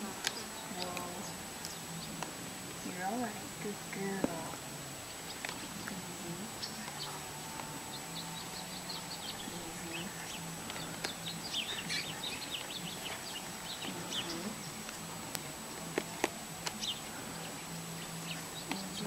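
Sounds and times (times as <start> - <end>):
faint low hum: 0.0 - 19.0
small birds chirping: 0.0 - 19.0.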